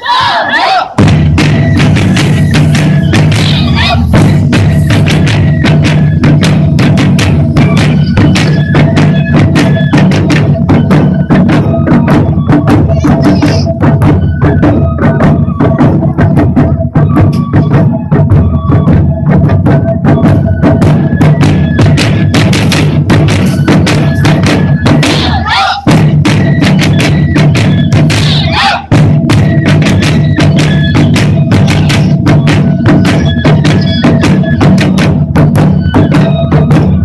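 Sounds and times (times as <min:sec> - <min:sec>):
low booming big drums: 0:00.9 - 0:37.0
sharp drum strokes: 0:01.0 - 0:37.0
high melody line: 0:01.6 - 0:37.0.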